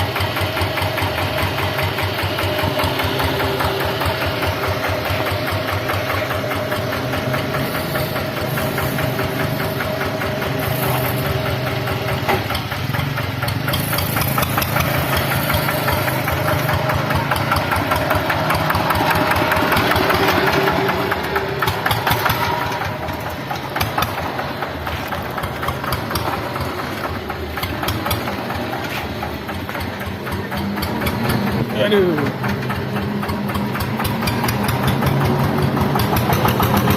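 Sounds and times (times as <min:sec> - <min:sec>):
diesel engine knocking: 0:00.0 - 0:36.9.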